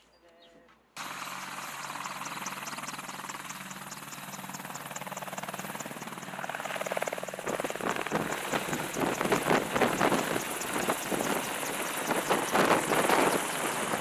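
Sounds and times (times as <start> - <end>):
helicopter rotor beat: 1.0 - 14.0
helicopter turbine whine: 1.0 - 14.0.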